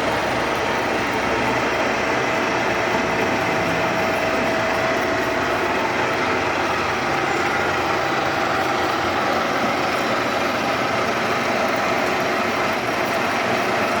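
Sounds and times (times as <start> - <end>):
lathe running: 0.0 - 14.0.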